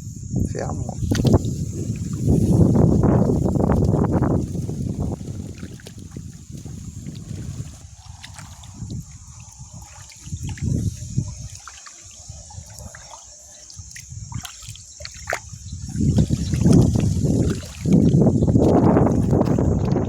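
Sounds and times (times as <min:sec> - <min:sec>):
insect trill: 0:00.0 - 0:20.0
shallow water sloshing: 0:00.9 - 0:20.0.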